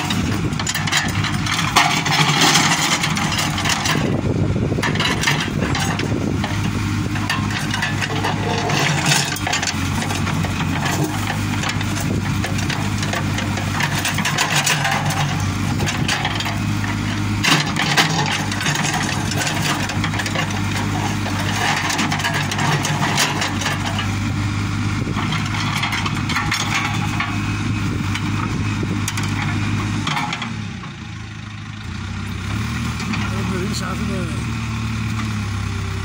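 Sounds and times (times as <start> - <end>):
bucket scraping rocks and earth: 0.0 - 4.2, 4.8 - 30.4
diesel engine running: 0.0 - 36.0.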